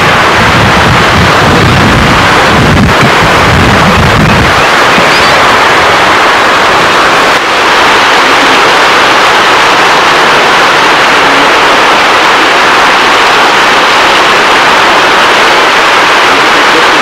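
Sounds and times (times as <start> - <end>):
loud steady rushing noise: 0.0 - 17.0.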